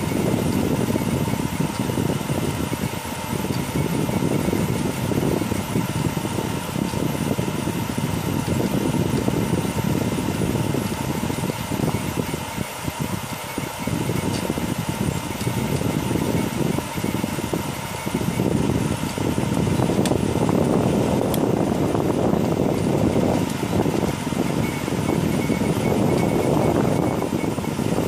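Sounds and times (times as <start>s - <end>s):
printer motors whirring and buzzing: 0.0s - 28.0s.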